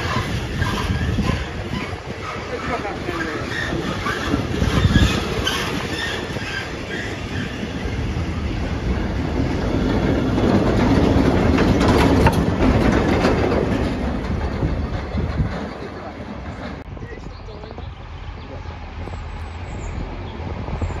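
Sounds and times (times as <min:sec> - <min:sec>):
train wheels clattering over rails: 0:00.0 - 0:21.0.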